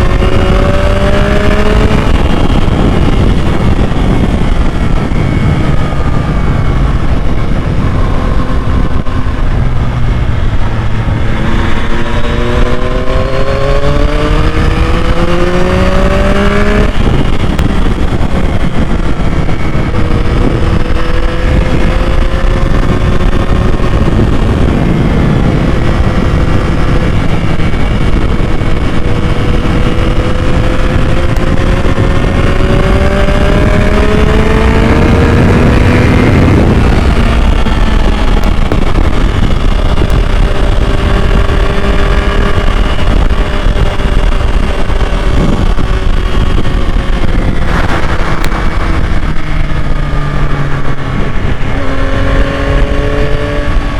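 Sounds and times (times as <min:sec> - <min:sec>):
motorcycle engine revving under load: 0:00.0 - 0:53.9.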